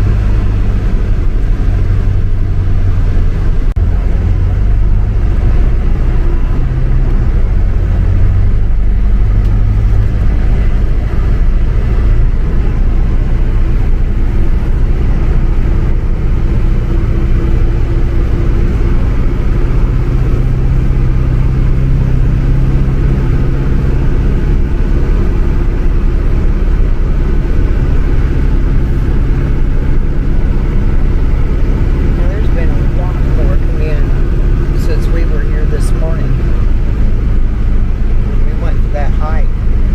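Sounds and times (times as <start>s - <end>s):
motor vehicle running: 0.0s - 39.9s.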